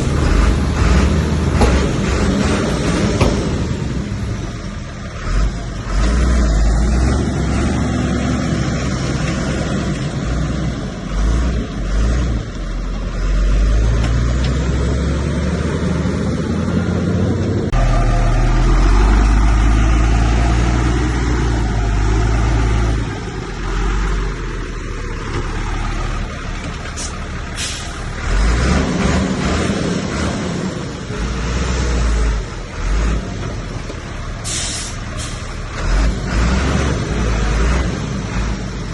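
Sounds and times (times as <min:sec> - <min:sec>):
heavy diesel engine working: 0:00.0 - 0:38.9.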